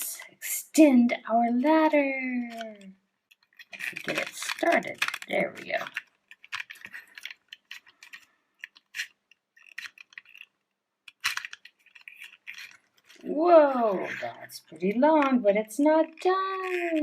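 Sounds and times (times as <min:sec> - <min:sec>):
toy ladder clicking and clinking: 0:01.7 - 0:17.0.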